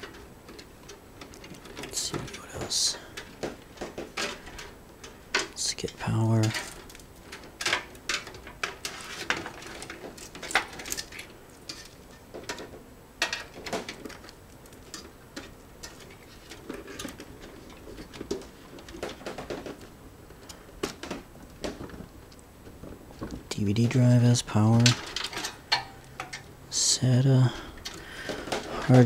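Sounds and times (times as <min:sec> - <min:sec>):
cables rattling against computer case: 0:00.0 - 0:26.5, 0:27.7 - 0:29.0.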